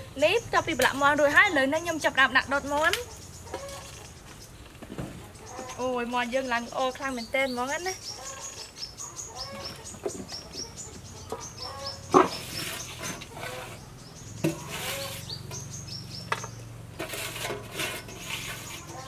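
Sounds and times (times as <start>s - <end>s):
bird chirping: 0.0s - 16.8s.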